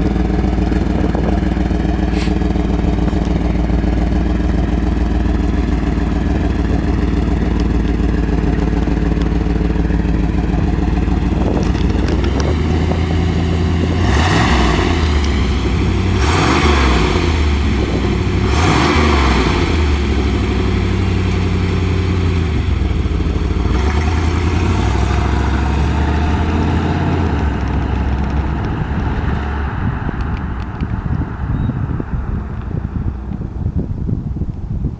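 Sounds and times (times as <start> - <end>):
car engine running and revving: 0.0 - 34.9.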